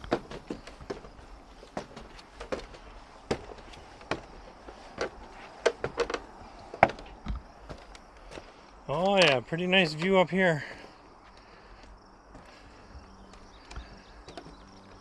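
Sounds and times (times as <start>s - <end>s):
footsteps on stairs: 0.0s - 9.3s, 9.9s - 15.0s.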